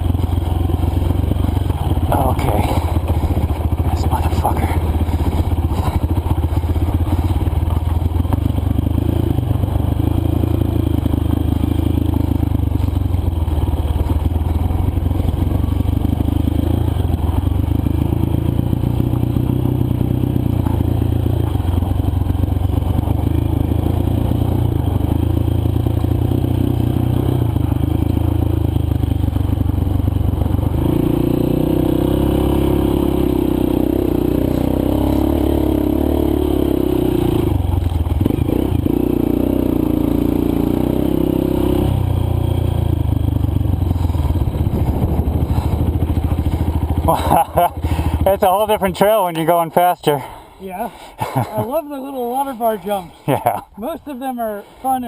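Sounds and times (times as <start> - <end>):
dirt bike engine revving: 0.0 - 29.5, 30.2 - 55.0.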